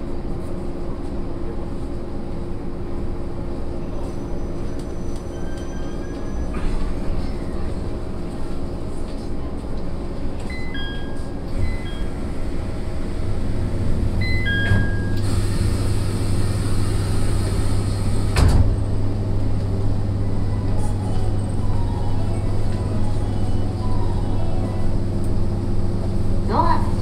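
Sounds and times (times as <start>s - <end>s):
train car hum: 0.0s - 27.0s.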